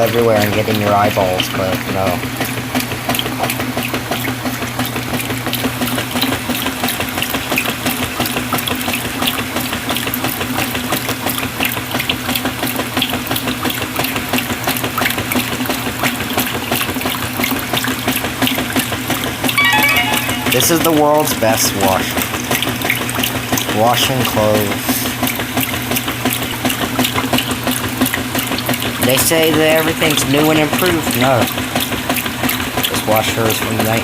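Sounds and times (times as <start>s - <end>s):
washing machine motor hum: 0.0s - 34.0s.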